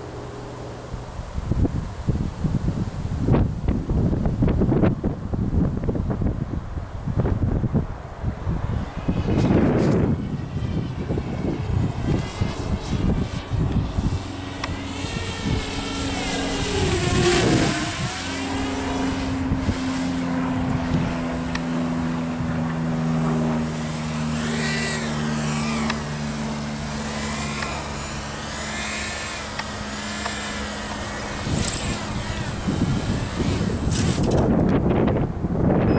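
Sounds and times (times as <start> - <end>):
quadcopter motors whining: 0.0 - 6.4, 7.1 - 35.9
wind rumble on microphone: 0.0 - 35.9.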